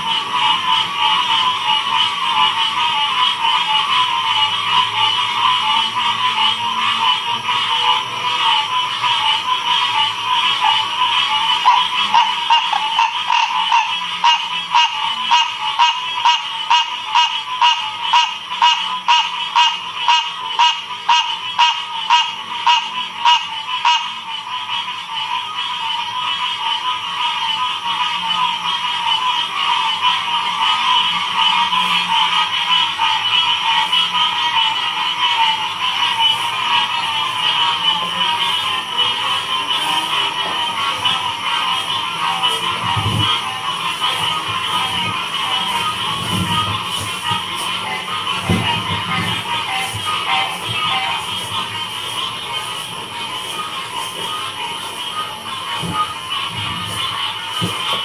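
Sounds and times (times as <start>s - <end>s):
chorus of frogs calling: 0.0s - 58.0s
louder pulsing frog call: 0.0s - 58.0s.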